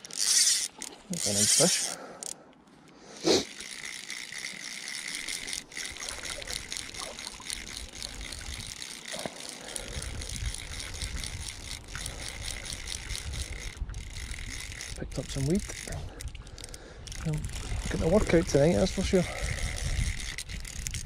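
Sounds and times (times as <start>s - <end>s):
fishing reel ratchet buzzing: 0.0s - 2.4s, 3.2s - 21.0s.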